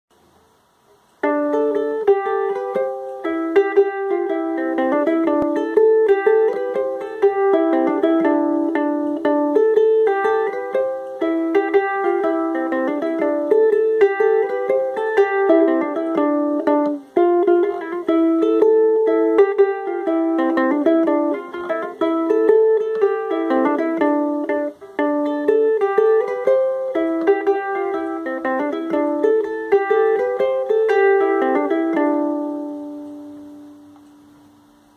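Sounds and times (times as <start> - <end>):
ukulele fingerpicked jig melody: 0.9 - 34.9.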